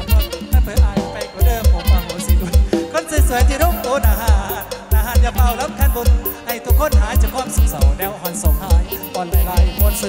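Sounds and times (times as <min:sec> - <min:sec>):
fast kick drum beat: 0:00.0 - 0:10.0
wavering melody line: 0:00.0 - 0:10.0.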